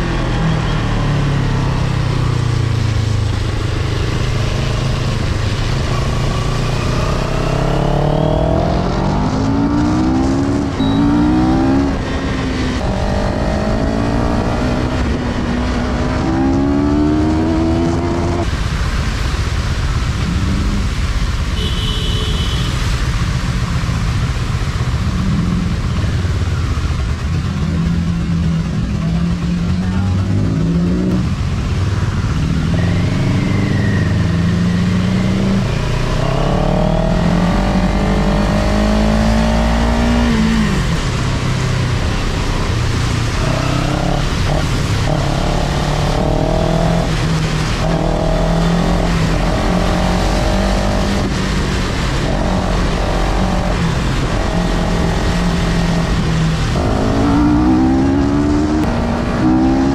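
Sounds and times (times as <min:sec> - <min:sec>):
wind and tyres on wet road: 0:00.0 - 0:59.9.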